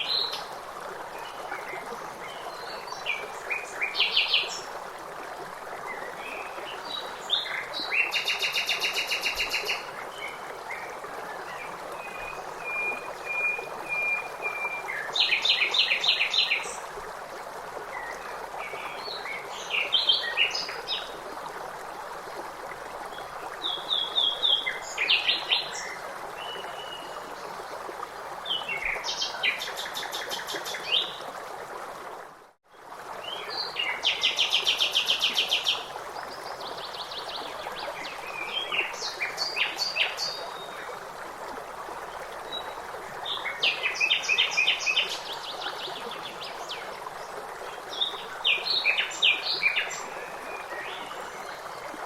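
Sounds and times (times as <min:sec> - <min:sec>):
running water: 0:00.0 - 0:52.0.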